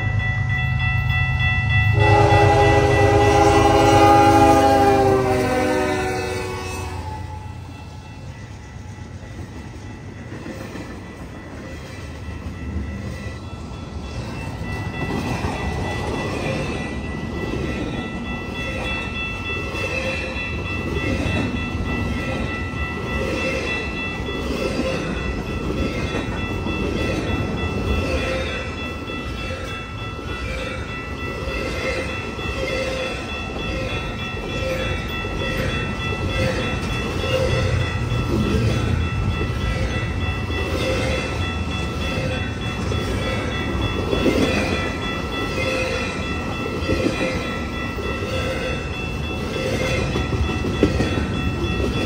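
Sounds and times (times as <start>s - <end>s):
steady high-pitched tones: 0.0s - 52.0s.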